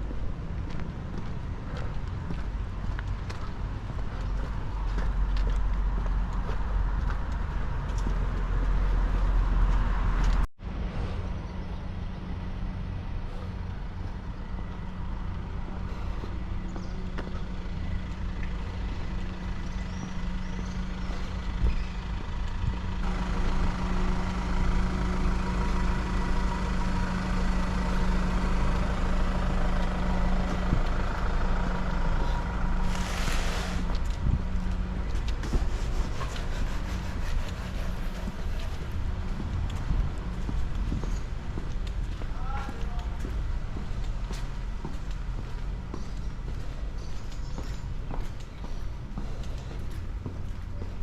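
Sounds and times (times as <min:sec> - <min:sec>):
engine humming: 0:00.0 - 0:51.0
street noise: 0:00.0 - 0:51.0.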